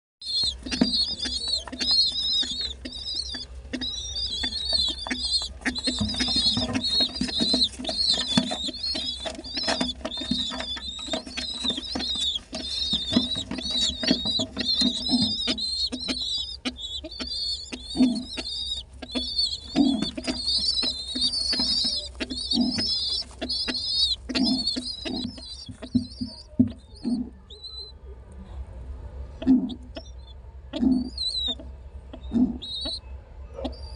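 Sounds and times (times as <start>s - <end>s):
pigeon squab squeaking: 0.2s - 28.0s, 29.4s - 33.9s.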